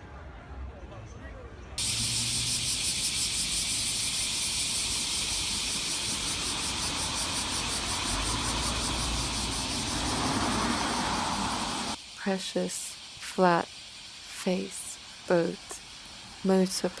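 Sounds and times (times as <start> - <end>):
cicadas shrilling: 1.8 - 17.0.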